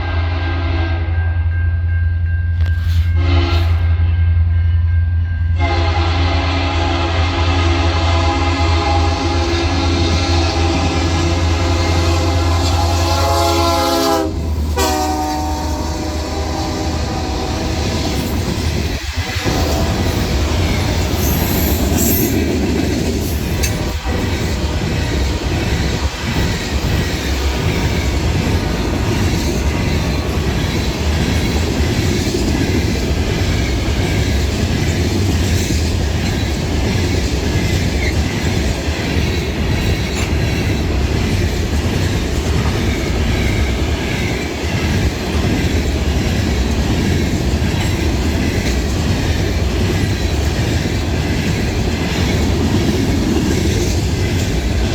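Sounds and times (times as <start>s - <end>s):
train wheels rumbling on rails: 2.1s - 4.6s, 5.4s - 54.9s.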